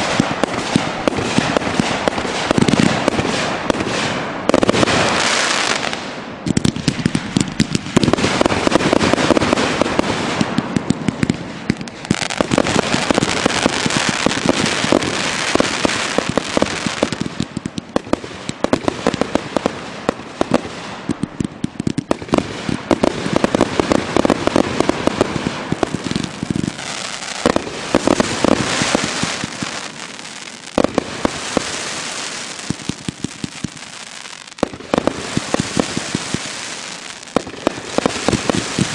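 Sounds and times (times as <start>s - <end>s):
firework bursts crackling: 0.0s - 38.9s.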